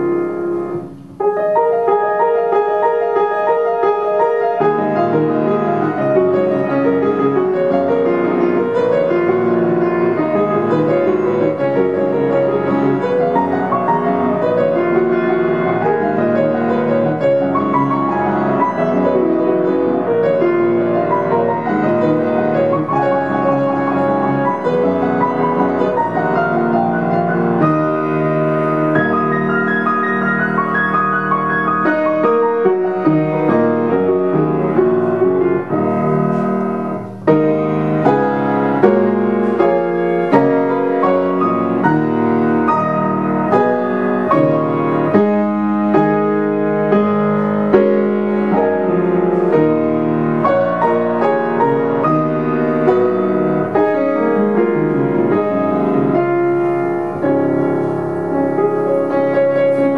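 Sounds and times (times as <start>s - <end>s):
upright piano playing: 0.0s - 59.9s.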